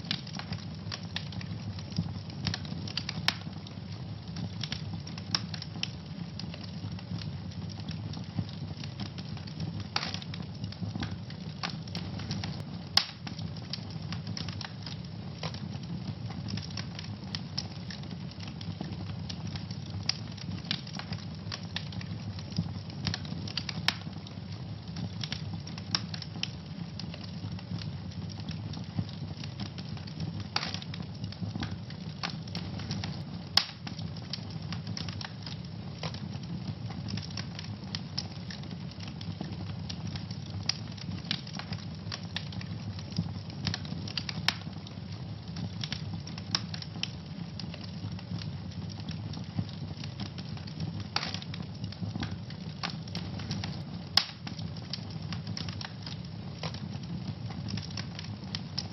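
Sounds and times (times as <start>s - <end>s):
low rumble of fire: 0.0s - 58.9s
wood fire crackling and popping: 0.0s - 58.9s.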